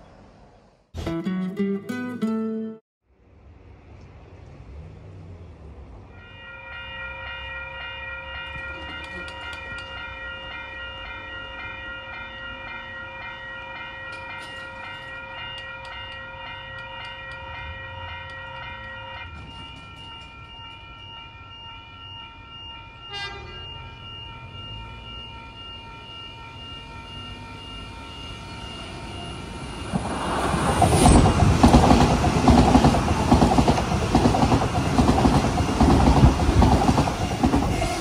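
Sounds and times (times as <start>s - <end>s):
level crossing bells ringing: 6.2s - 37.8s.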